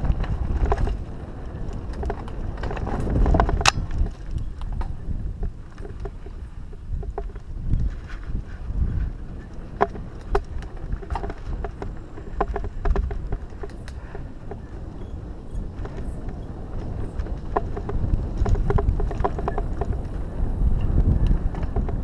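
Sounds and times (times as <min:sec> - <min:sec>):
bike clicks and rattles: 0:00.0 - 0:22.0
wind rumble on microphone: 0:00.0 - 0:22.0.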